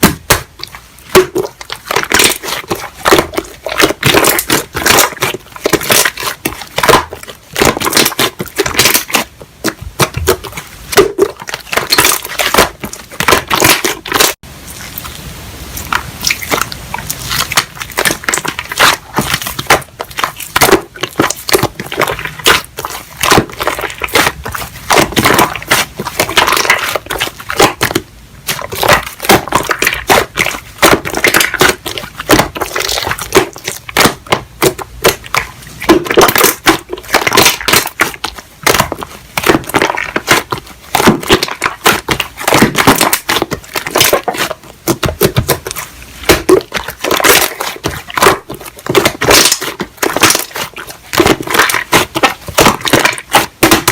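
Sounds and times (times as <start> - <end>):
slime crackling and popping: 0.0 - 15.1, 15.7 - 53.9.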